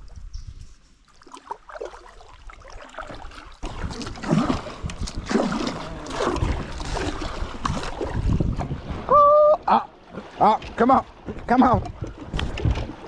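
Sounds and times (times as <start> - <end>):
rushing splashing water: 1.1 - 13.0.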